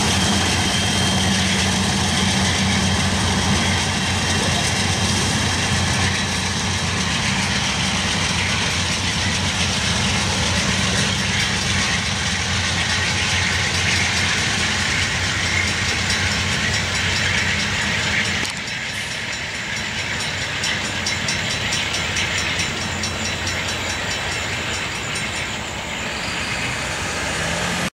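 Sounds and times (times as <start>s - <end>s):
train wheels clacking over rail joints: 0.0s - 26.8s
diesel locomotives passing: 0.0s - 27.9s.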